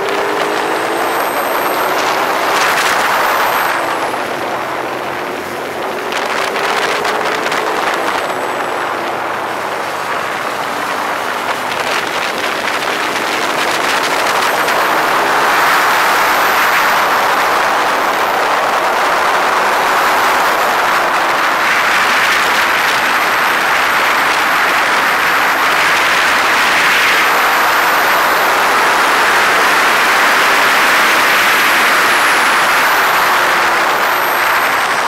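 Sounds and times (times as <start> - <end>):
motorcycle engine at speed: 0.0 - 35.0
wind noise rushing: 0.0 - 35.0.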